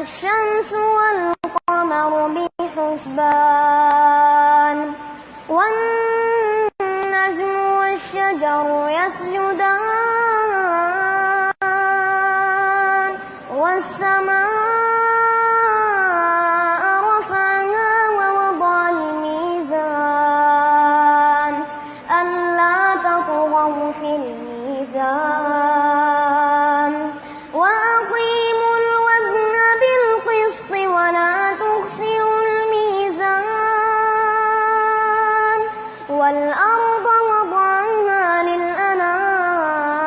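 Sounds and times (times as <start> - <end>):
melodic quran recitation: 0.0 - 40.0.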